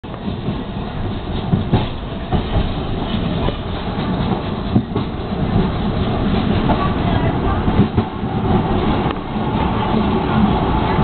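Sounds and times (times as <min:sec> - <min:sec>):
steel wheels rumbling on rail: 0:00.0 - 0:11.0
wheels clacking over rail joints: 0:00.1 - 0:11.0.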